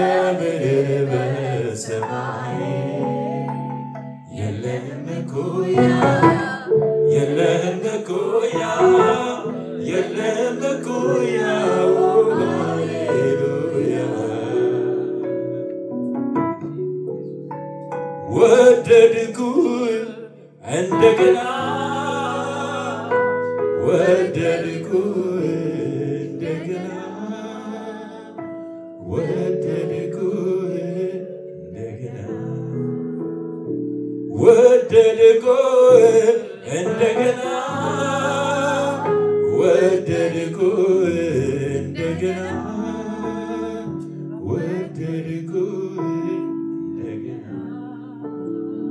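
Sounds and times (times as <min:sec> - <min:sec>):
man singing into a microphone: 0:00.0 - 0:03.6, 0:04.3 - 0:15.2, 0:18.3 - 0:23.2, 0:23.8 - 0:28.3, 0:29.0 - 0:32.9, 0:34.4 - 0:47.7
sustained keyboard chords: 0:00.0 - 0:48.9.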